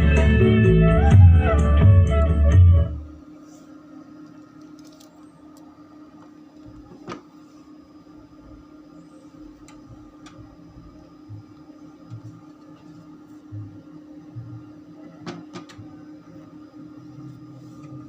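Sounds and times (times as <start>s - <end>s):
quiet steady hum: 2.7s - 18.0s.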